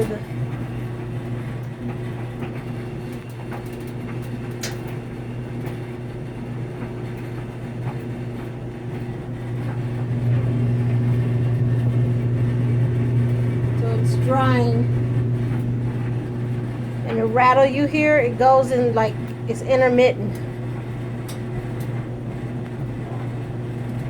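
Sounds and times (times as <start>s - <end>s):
clothes dryer humming: 0.0s - 24.0s.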